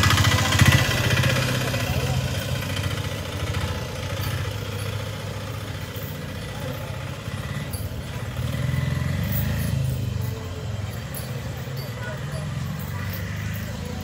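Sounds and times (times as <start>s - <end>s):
small engine running at low revs: 0.0s - 14.0s.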